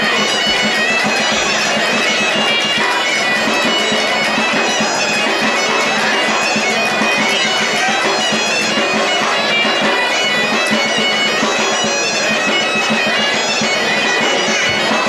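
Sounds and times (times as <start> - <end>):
bagpipe music with drone: 0.0 - 15.0.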